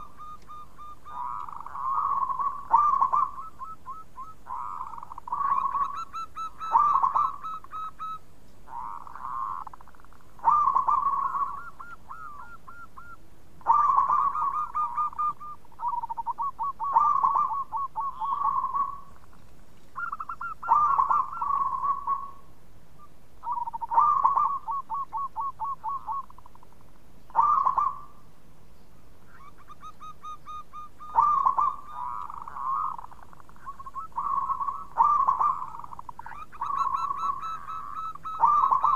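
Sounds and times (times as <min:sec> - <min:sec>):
dove cooing: 0:00.0 - 0:19.4, 0:20.0 - 0:28.3, 0:29.3 - 0:38.9.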